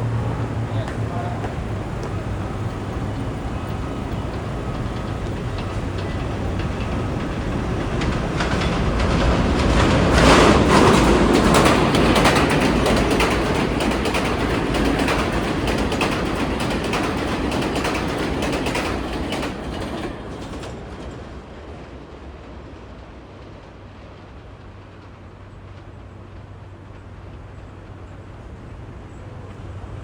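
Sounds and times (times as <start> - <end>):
subway train wheels clacking: 0.0 - 30.0.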